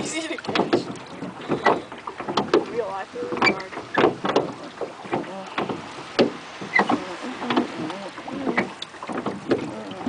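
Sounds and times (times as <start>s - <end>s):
water slapping boat hull: 0.0s - 10.0s
sharp knocks: 0.5s - 2.7s, 3.3s - 9.7s.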